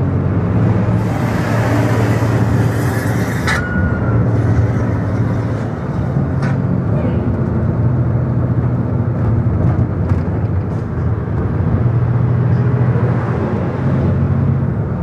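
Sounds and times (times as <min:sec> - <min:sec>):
tyre and road noise: 0:00.0 - 0:15.0.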